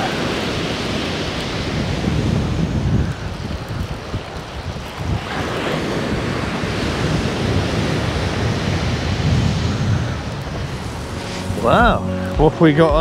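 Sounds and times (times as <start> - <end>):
surf breaking on shingle beach: 0.0 - 13.0
wind buffeting microphone: 0.0 - 13.0.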